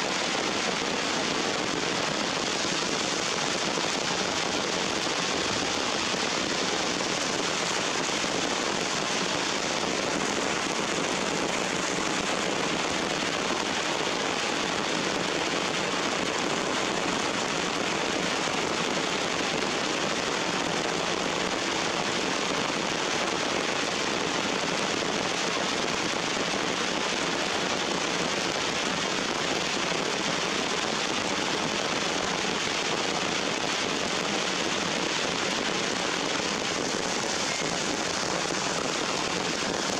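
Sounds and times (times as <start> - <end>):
heavy rain on leaves and rocks: 0.0 - 39.9.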